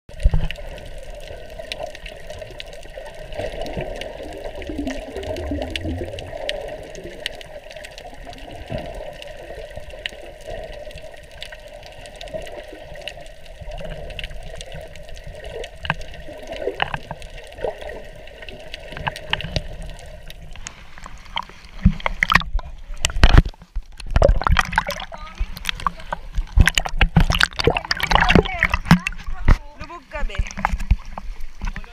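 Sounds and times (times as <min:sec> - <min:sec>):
small underwater clicks and crackles: 0:00.1 - 0:31.9
underwater watery rush: 0:00.1 - 0:31.9.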